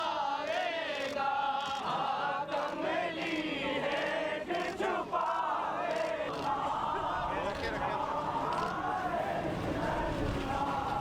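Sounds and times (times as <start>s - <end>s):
crowd chanting in unison: 0.0s - 11.0s.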